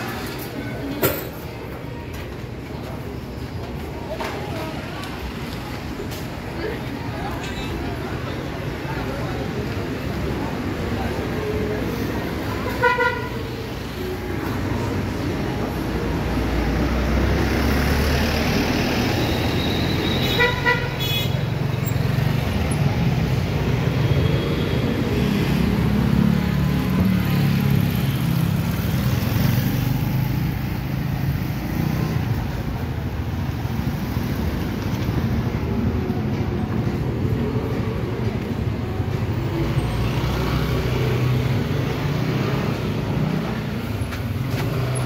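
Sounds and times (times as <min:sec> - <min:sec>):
traffic passing: 0:00.0 - 0:45.0.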